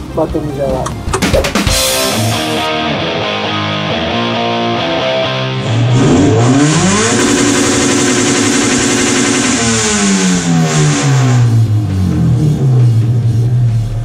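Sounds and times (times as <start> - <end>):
car engine revving: 0.9 - 14.0.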